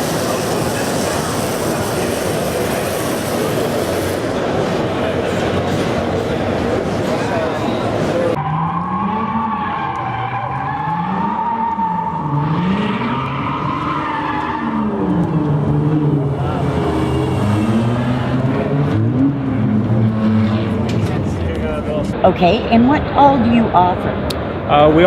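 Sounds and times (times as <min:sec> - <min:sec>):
tires squealing: 0:00.0 - 0:22.1
car engine revving: 0:00.0 - 0:23.4.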